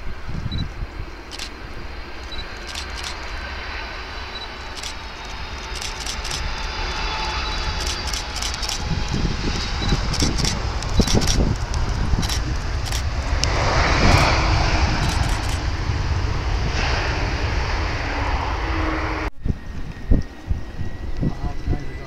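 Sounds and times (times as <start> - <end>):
wind buffeting microphone: 0.0 - 3.6, 4.3 - 22.0
jet engines rushing: 0.0 - 22.0.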